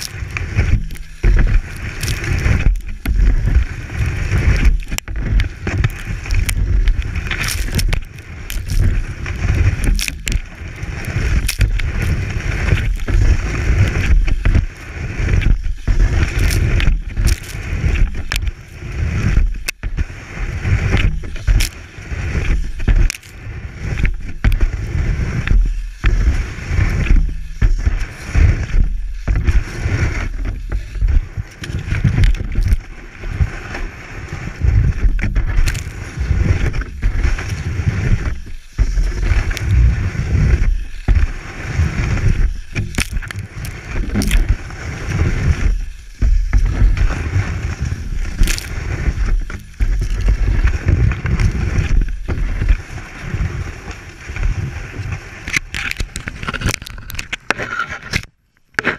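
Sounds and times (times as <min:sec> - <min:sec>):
ski scraping over snow: 0:00.0 - 0:58.9.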